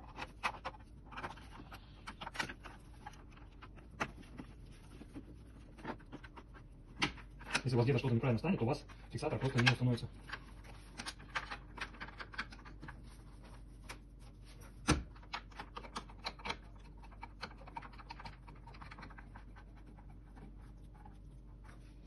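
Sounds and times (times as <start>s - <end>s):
plastic parts clicking and scraping: 0.0s - 20.6s.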